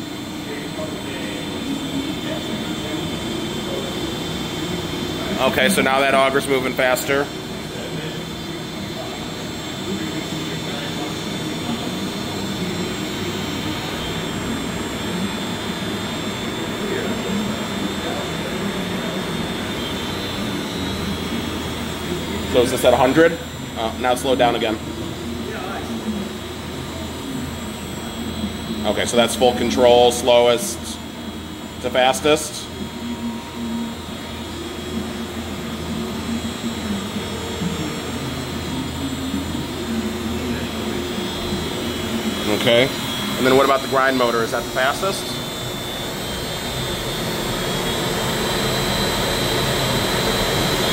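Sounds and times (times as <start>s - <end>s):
faint high whine: 0.0s - 50.9s
meat grinder running: 0.0s - 50.9s
motor and gearbox hum: 0.0s - 50.9s.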